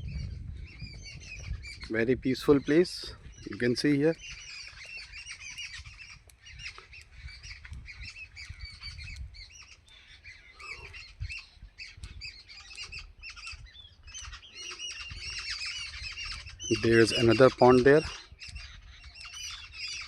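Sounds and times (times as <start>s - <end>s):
low rumble of wind: 0.0s - 20.0s
small birds chirping: 0.0s - 20.0s.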